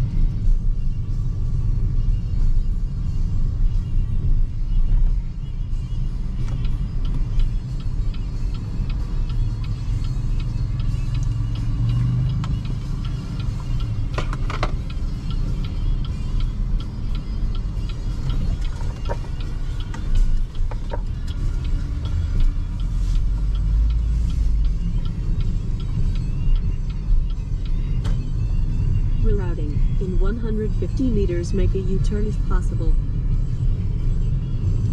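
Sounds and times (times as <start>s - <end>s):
road and tyre rumble in car: 0.0s - 34.9s.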